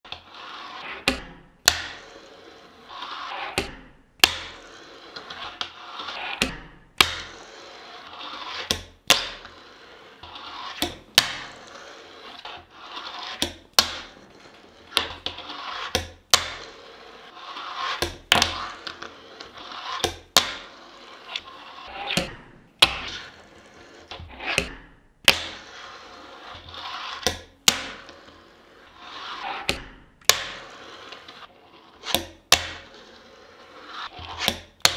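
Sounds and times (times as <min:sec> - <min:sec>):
fingerboard wheels rolling on wood: 0:00.1 - 0:01.0, 0:01.7 - 0:03.6, 0:04.2 - 0:06.4, 0:07.0 - 0:24.5, 0:25.3 - 0:29.7, 0:30.3 - 0:34.9.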